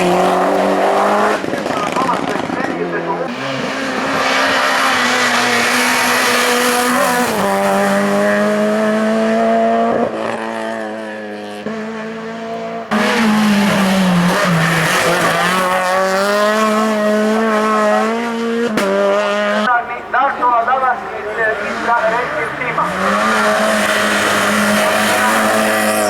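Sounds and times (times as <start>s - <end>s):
racing car engine accelerating: 0.0s - 26.0s.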